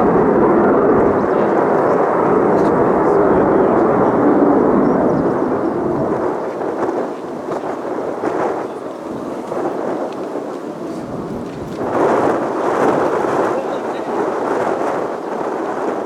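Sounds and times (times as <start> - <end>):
military jet engine roar: 0.0 - 16.0.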